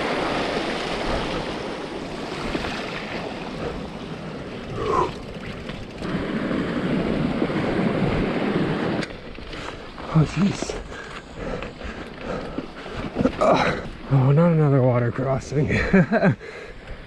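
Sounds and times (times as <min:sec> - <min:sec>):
water splashing under bike: 0:00.0 - 0:16.4.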